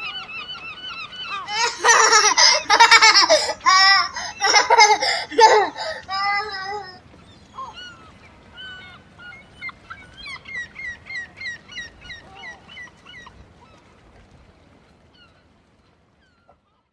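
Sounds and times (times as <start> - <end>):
birds calling: 0.0 - 13.9.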